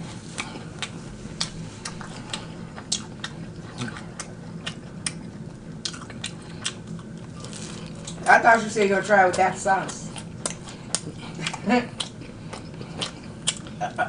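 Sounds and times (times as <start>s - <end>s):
crunchy chewing: 0.0s - 8.3s, 9.3s - 14.0s.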